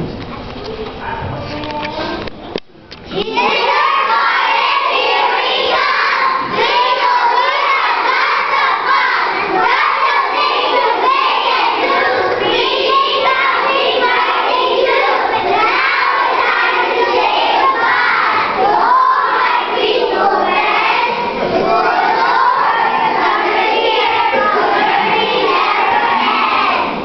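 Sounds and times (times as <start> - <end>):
children singing together: 3.1 - 27.0.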